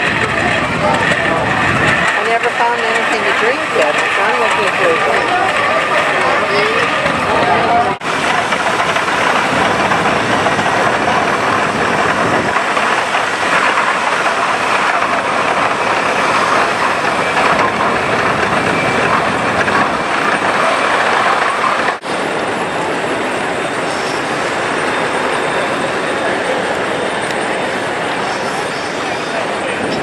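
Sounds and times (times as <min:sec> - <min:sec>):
steam traction engines clattering: 0:00.0 - 0:30.0.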